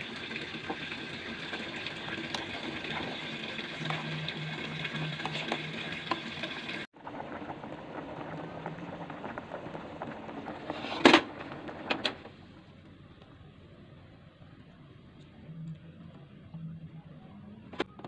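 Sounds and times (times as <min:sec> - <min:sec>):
water boiling in a pot: 0:00.0 - 0:16.9.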